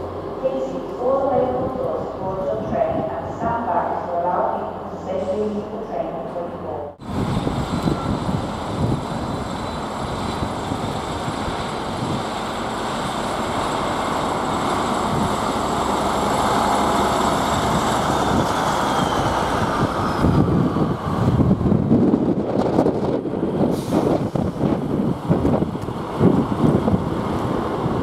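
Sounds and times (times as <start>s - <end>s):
diesel train passing: 0.0s - 28.0s.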